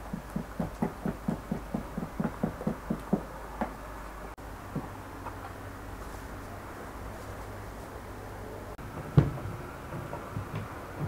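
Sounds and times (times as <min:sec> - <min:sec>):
faint hiss and hum: 0:00.0 - 0:11.0.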